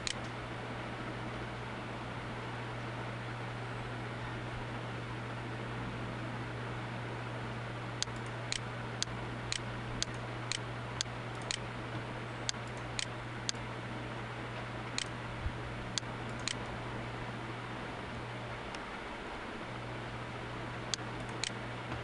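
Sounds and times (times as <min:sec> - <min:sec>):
low hum and hiss: 0:00.0 - 0:22.0.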